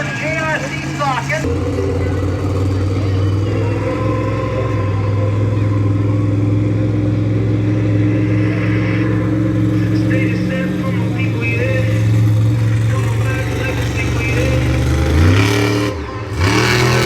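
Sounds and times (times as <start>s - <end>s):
monster truck engine running: 0.0s - 17.0s.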